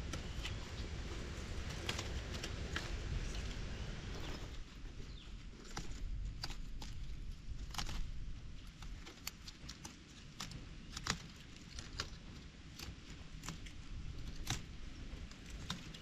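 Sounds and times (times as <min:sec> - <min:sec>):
dry leaves and twigs crackling: 0:00.0 - 0:16.0
low steady rumble: 0:00.0 - 0:16.0.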